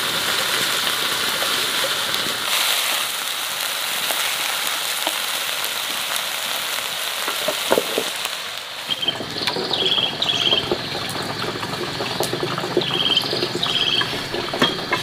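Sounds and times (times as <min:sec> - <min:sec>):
greens sizzling in a wok: 0:00.0 - 0:15.0.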